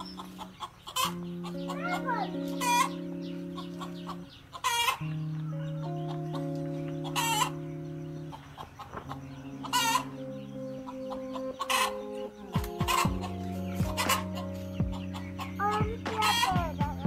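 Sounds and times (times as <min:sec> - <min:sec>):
hen squawking: 0:00.0 - 0:17.0
music of long held notes: 0:00.0 - 0:17.0.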